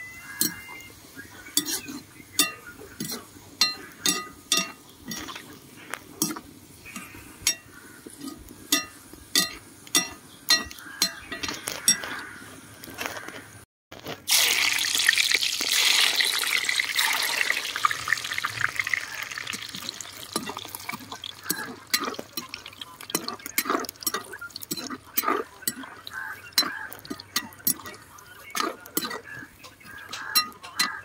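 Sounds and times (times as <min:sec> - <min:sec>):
nuts sizzling in hot oil: 0:00.0 - 0:13.0, 0:14.1 - 0:31.0
frying pops and crackles: 0:00.0 - 0:31.0.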